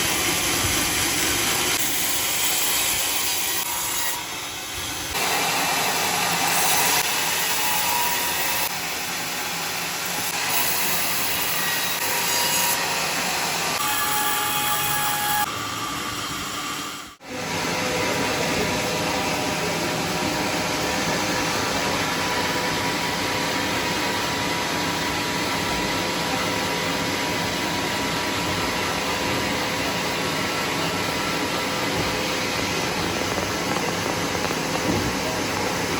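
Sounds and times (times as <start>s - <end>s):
sawmill saw cutting log: 0.0s - 35.9s.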